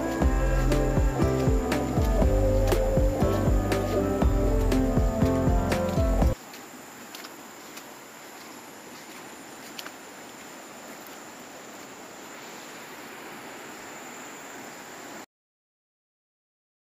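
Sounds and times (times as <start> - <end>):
high-pitched insect drone: 0.0 - 15.2.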